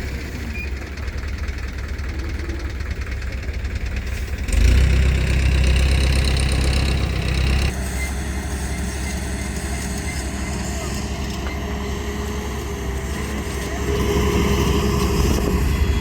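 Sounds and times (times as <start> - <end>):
engine running with even pulsing: 0.0 - 16.0.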